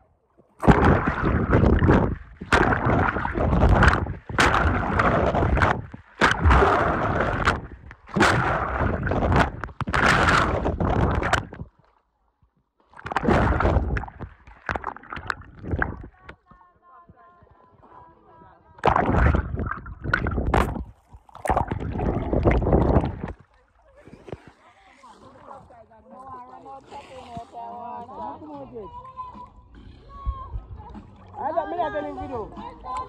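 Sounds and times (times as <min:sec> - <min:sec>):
water splashing from swimming: 0:00.4 - 0:12.0, 0:12.8 - 0:16.5, 0:18.8 - 0:33.0.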